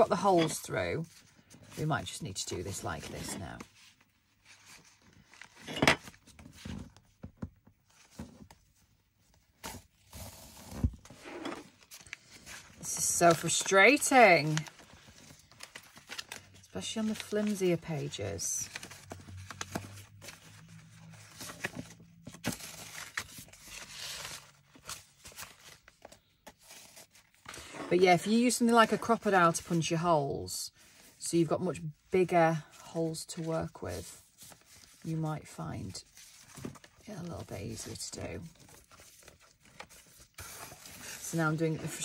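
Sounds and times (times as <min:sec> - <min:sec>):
paper rustling and scraping: 0:00.0 - 0:07.0, 0:09.3 - 0:30.1, 0:32.8 - 0:42.0.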